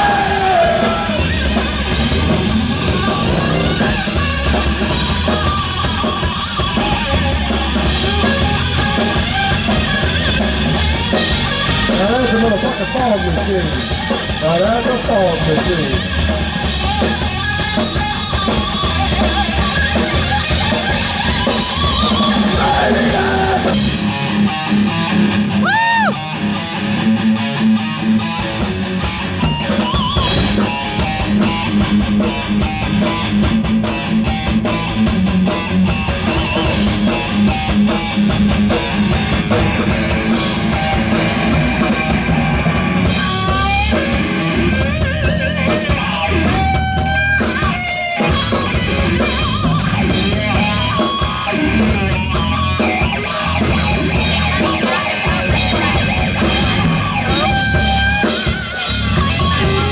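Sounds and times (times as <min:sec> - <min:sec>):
distorted electric guitar solo: 0:00.0 - 0:59.9
drum kit: 0:00.0 - 0:59.9.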